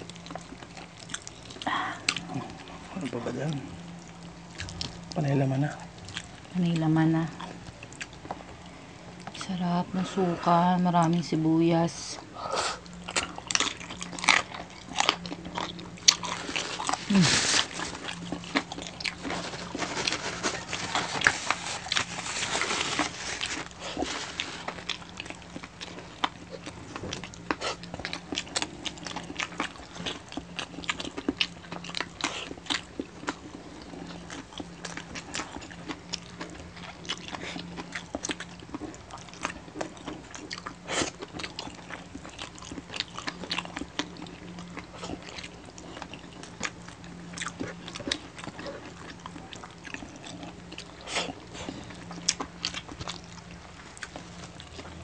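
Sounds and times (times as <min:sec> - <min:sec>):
crunching and chewing: 0:00.0 - 0:55.0
faint low hum: 0:00.0 - 0:55.0.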